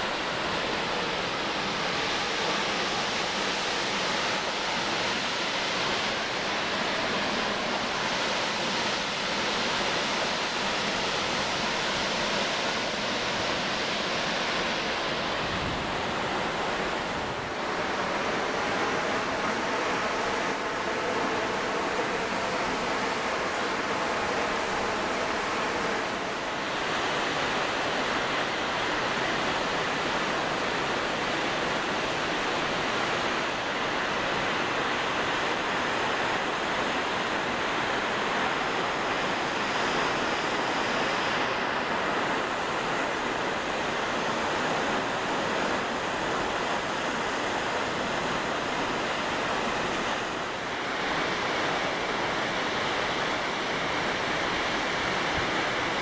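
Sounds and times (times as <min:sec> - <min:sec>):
distant water rushing: 0:00.0 - 0:56.0.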